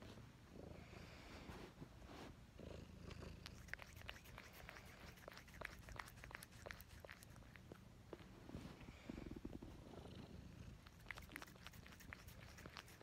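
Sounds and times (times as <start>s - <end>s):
cat purring: 2.5s - 13.0s.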